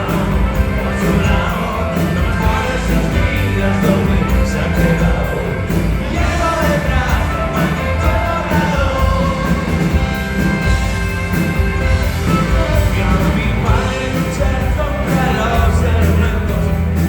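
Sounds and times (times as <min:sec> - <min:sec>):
live rock band with singing: 0:00.0 - 0:17.0.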